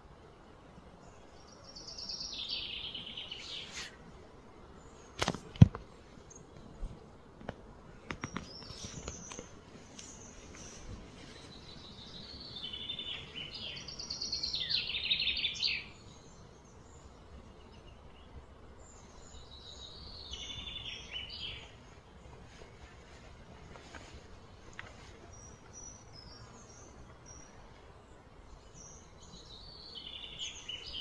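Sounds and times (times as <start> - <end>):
songbird singing: 0.0 - 31.0
steady outdoor background: 0.0 - 31.0.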